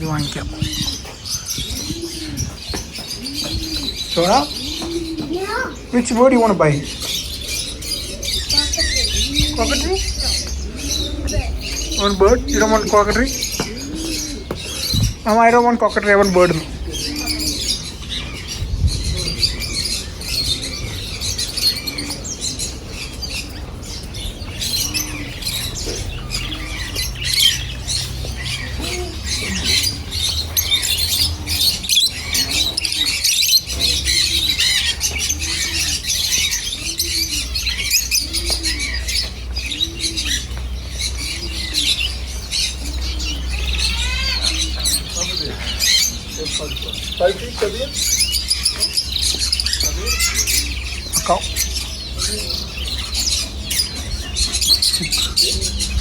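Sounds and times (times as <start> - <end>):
caged birds chirping and squawking: 0.0 - 56.0.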